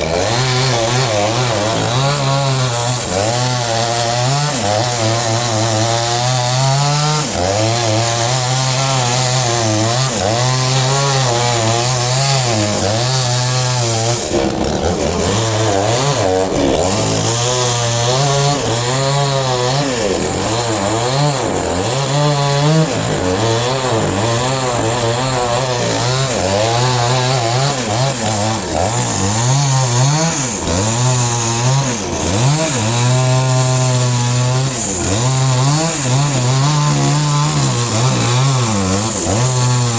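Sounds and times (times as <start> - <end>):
power saw cutting log: 0.0 - 39.9.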